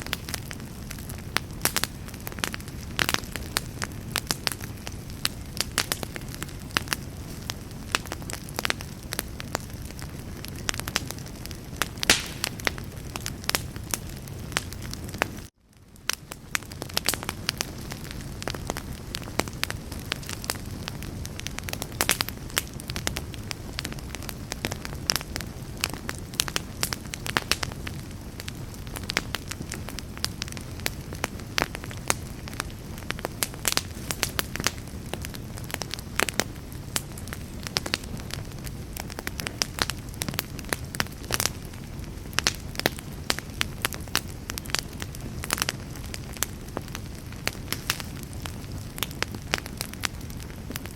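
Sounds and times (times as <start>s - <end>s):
campfire flames rumbling: 0.0s - 50.9s
fire crackling and popping: 0.0s - 50.9s.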